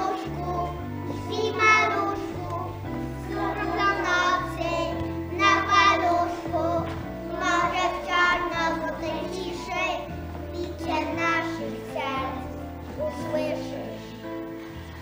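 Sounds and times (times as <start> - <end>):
children singing a carol: 0.0 - 14.3
instrumental accompaniment: 0.0 - 15.0.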